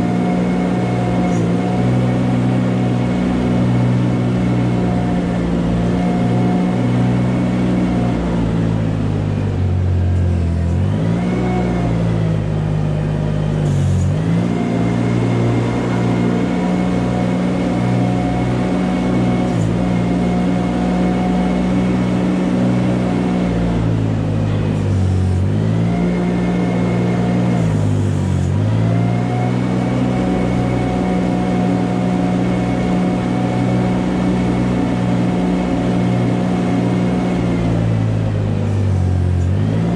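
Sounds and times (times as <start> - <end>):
farm machine engine running: 0.0 - 39.9.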